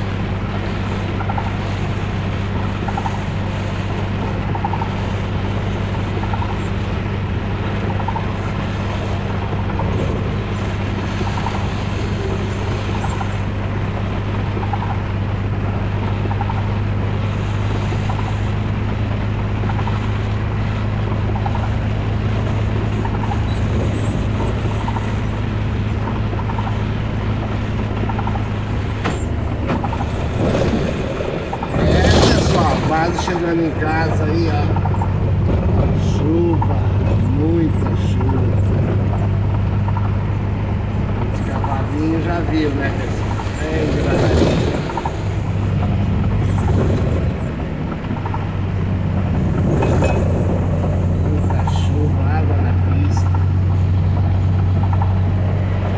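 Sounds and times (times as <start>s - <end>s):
road and rain noise: 0.0s - 55.9s
vehicle engine drone: 0.0s - 55.9s.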